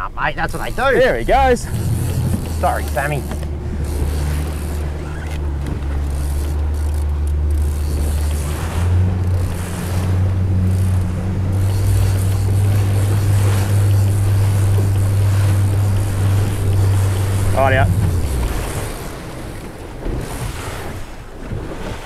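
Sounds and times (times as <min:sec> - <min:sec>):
motorboat engine running: 0:00.0 - 0:22.0
water rushing along hull: 0:00.0 - 0:22.0.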